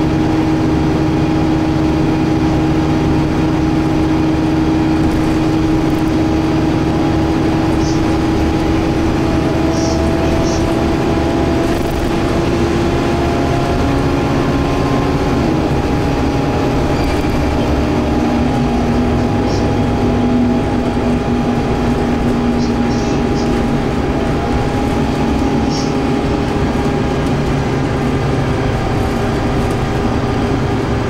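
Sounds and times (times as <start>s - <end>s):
bus engine hum: 0.0s - 31.0s
tyre and road noise: 0.0s - 31.0s.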